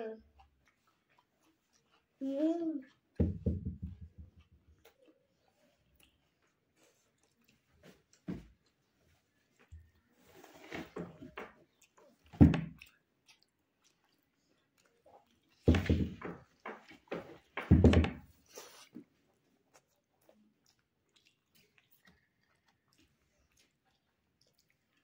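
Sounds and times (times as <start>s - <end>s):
man chewing food: 0.2s - 25.0s.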